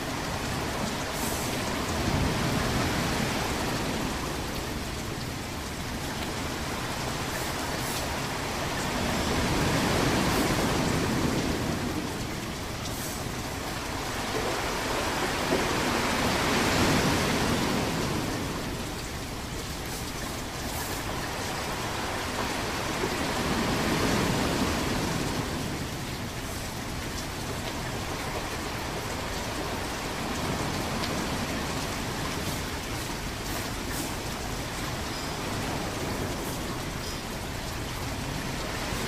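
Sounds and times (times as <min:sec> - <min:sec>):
ocean waves washing in: 0:00.0 - 0:39.0.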